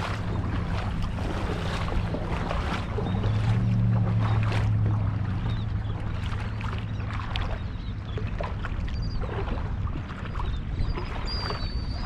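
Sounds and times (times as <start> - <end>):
water sloshing around legs: 0.0 - 12.0
wind rumble on microphone: 0.0 - 12.0.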